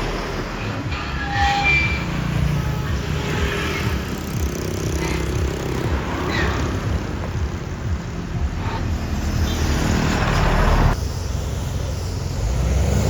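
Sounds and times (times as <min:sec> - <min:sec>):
heavy vehicle engine rumbling: 0:00.0 - 0:13.0.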